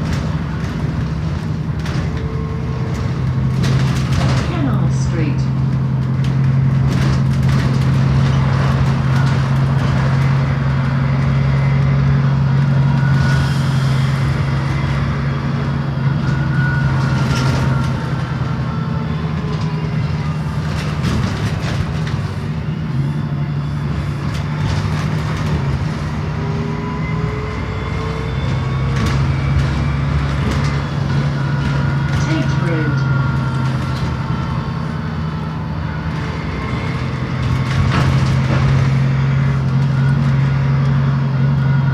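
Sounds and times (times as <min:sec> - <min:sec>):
bus engine droning: 0:00.0 - 0:41.9.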